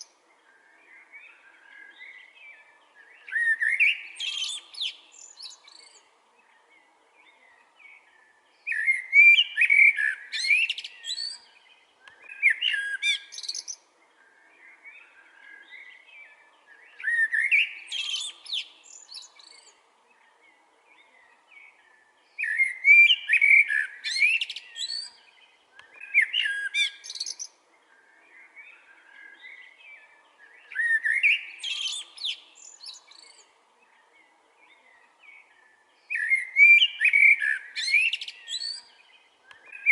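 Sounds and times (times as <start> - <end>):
blackbird singing: 0.0 - 39.9
soft bird twittering: 0.0 - 39.9.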